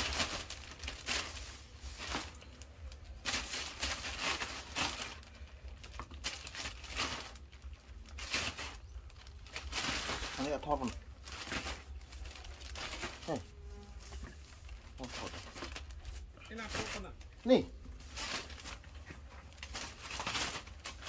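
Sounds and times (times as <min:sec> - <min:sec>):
leaves rustling and crinkling: 0:00.0 - 0:21.0
low steady rumble: 0:00.0 - 0:21.0.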